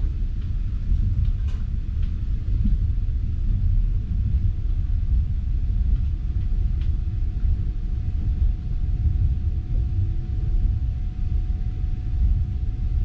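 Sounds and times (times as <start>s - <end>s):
faint steady hum: 0.0s - 13.0s
train rumble inside carriage: 0.0s - 13.0s.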